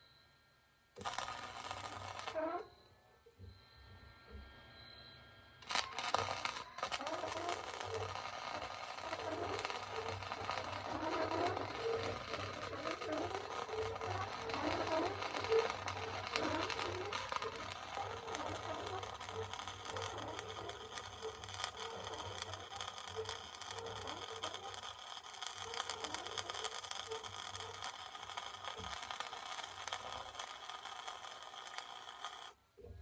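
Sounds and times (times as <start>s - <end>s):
arc welding crackle and sizzle: 1.0s - 2.7s, 5.6s - 32.6s.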